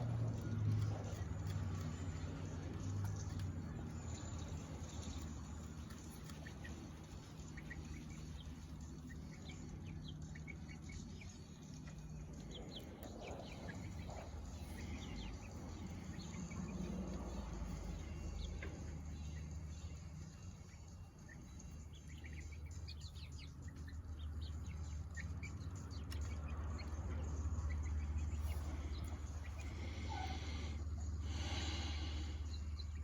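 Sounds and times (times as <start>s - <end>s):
chicks peeping: 0.0s - 33.0s.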